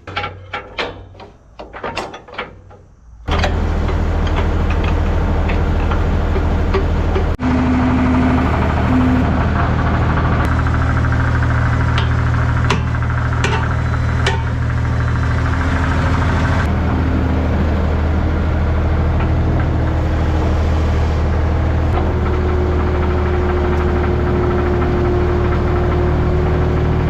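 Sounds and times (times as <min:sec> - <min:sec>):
diesel engine running: 0:03.2 - 0:27.0.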